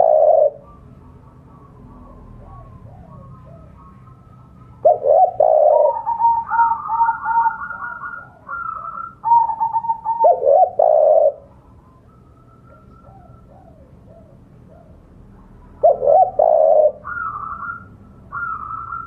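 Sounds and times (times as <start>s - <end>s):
dove cooing: 0.0s - 19.0s
trilling bird call: 0.0s - 19.0s.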